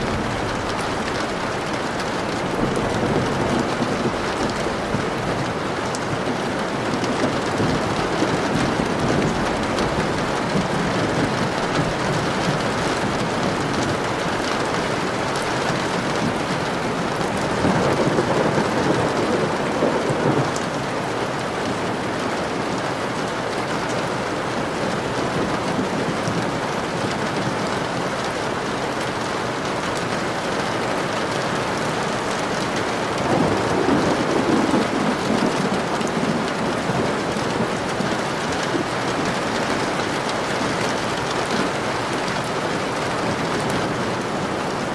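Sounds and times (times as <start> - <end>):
thunder rumbling: 0.0 - 22.6, 31.2 - 44.9
heavy rain: 0.0 - 44.9.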